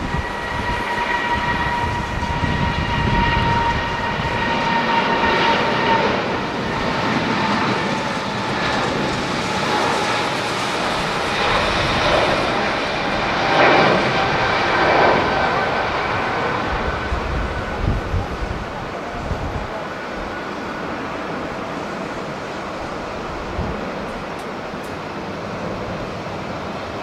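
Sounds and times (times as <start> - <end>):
jet engine roar: 0.0 - 27.0
jet engine whine: 0.0 - 27.0.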